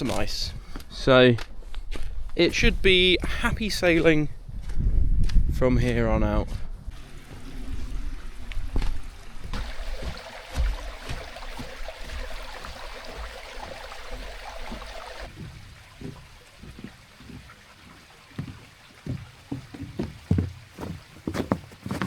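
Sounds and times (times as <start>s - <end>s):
footsteps on trail: 0.0s - 2.7s, 4.5s - 22.0s.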